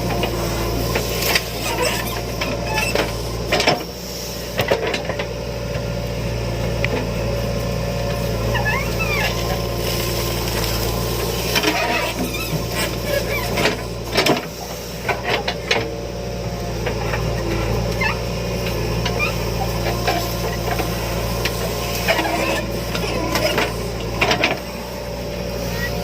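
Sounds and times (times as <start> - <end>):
diesel engines droning: 0.0 - 26.0.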